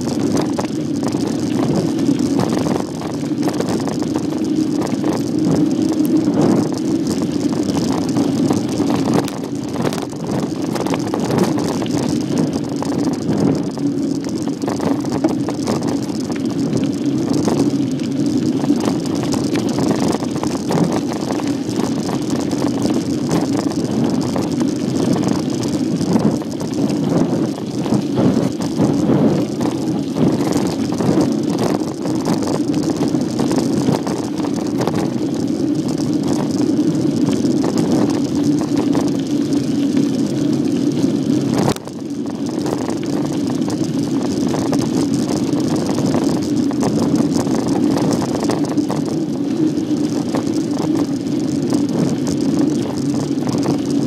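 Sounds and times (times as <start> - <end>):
bicycle tyres rumbling on dirt: 0.0 - 54.0.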